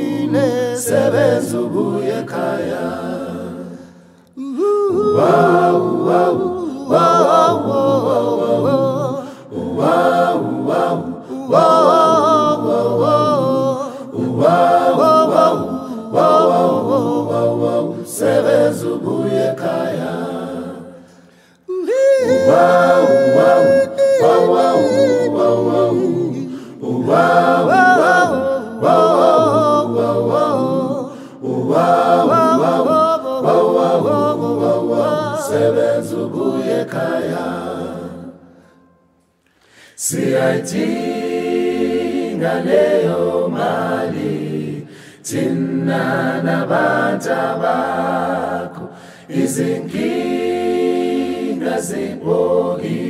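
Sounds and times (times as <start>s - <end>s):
a cappella choir singing: 0.0s - 53.0s.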